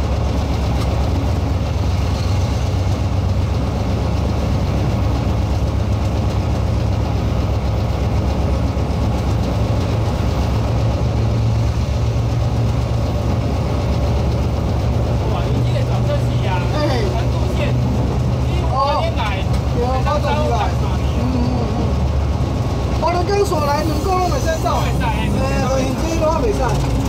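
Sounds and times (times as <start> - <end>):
locomotive engine droning: 0.0 - 27.0.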